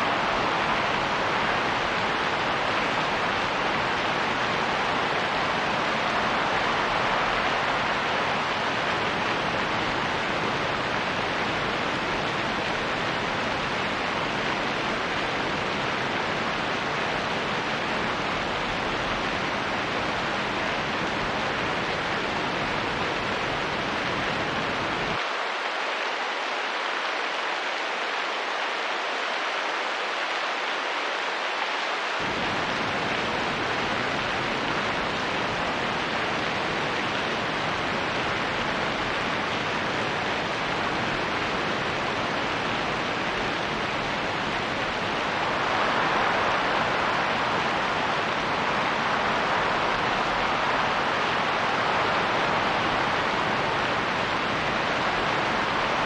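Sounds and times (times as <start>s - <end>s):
steady rain: 0.0s - 56.0s
wind: 0.0s - 56.0s.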